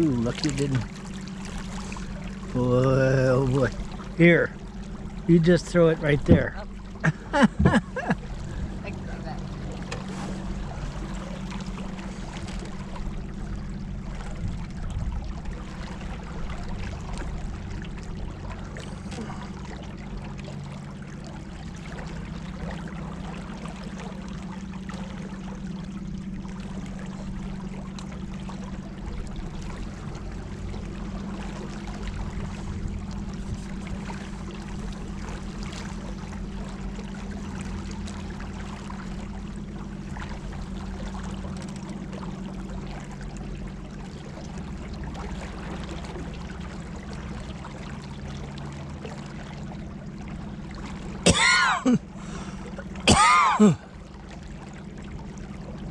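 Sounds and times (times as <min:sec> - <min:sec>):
steady low hum: 0:00.0 - 0:55.9
water rushing along a boat: 0:00.0 - 0:55.9.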